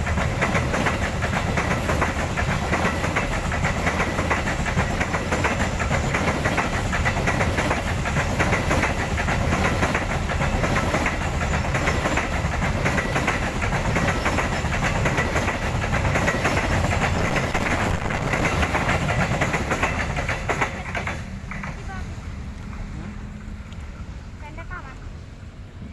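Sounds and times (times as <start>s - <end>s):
wheels clacking over rail joints: 0.0s - 24.0s
train wagons rumbling past: 0.0s - 25.9s.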